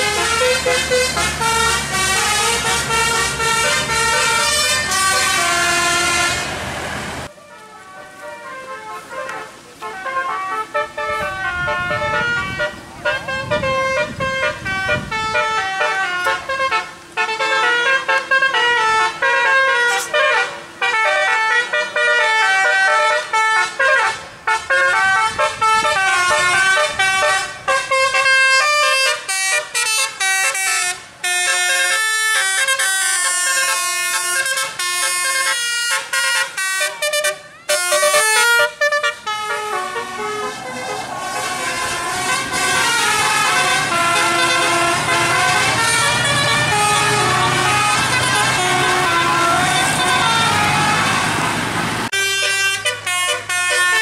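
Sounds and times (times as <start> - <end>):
bus horn playing melody: 0.0 - 54.0
vehicle engine rumbling: 0.0 - 54.0.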